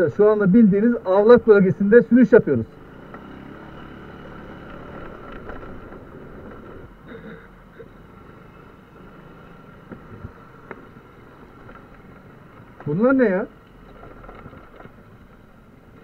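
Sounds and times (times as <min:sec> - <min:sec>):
small motorcycle engine running: 0:02.7 - 0:15.6.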